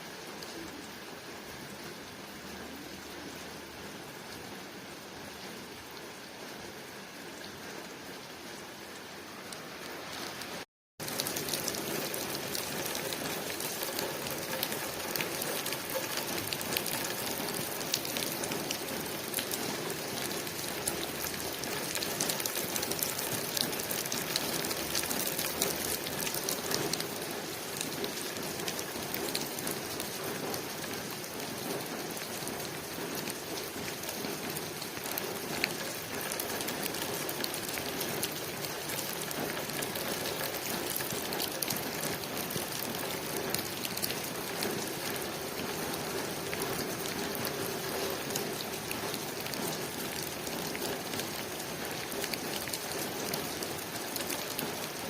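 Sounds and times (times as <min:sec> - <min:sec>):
rain on window pane: 0:09.5 - 0:55.0.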